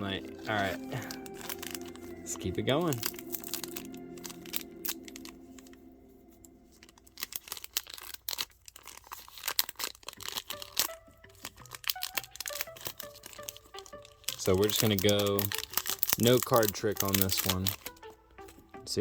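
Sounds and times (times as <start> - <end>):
foil wrapper tearing and crinkling: 0.0 - 18.8
faint background music: 0.0 - 19.0.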